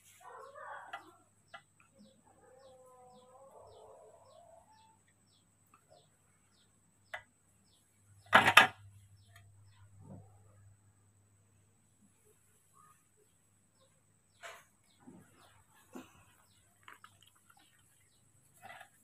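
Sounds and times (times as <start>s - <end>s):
small bird chirping: 0.1s - 10.6s, 12.0s - 19.0s.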